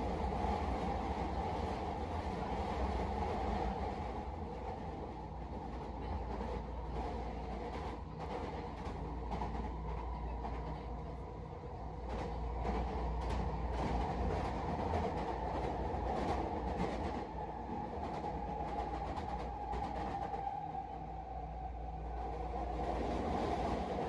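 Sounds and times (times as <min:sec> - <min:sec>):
train car low rumble: 0:00.0 - 0:24.0.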